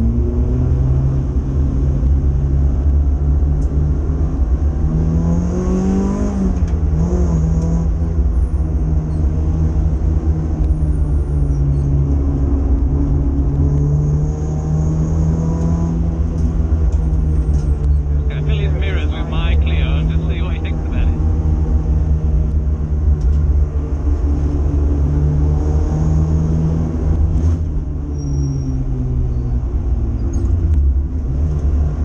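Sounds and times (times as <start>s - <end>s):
car engine revving: 0.0s - 28.1s
low road and cabin rumble: 0.0s - 32.0s.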